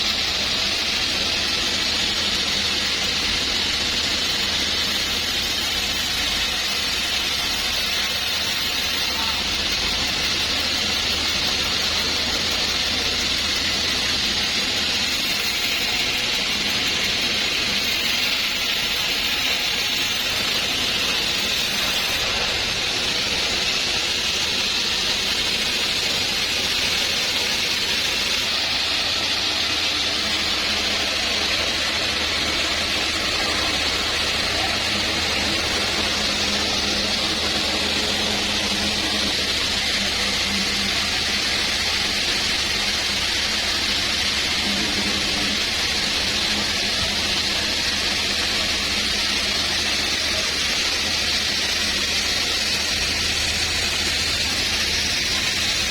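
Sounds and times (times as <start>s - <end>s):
saw cutting through log: 0.0s - 55.9s.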